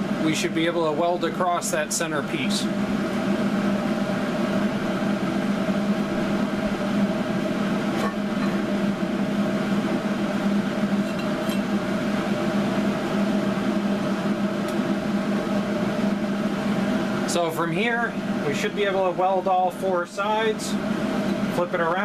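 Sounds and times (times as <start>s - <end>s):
machine hum with low drone: 0.0s - 22.0s.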